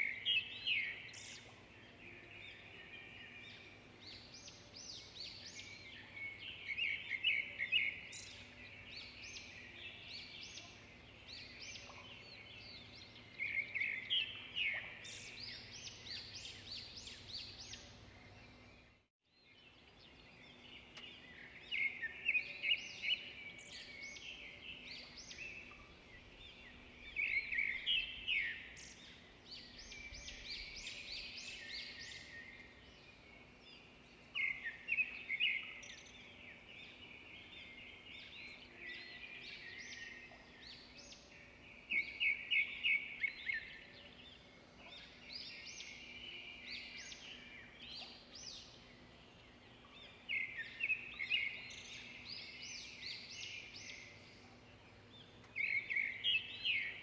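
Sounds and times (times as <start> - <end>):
small birds chirping and twittering: 0.0 - 57.0.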